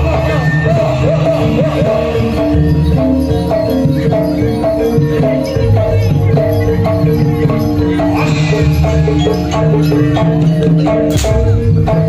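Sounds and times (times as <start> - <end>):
drums: 0.0 - 12.0
metallophones playing melody: 0.0 - 12.0.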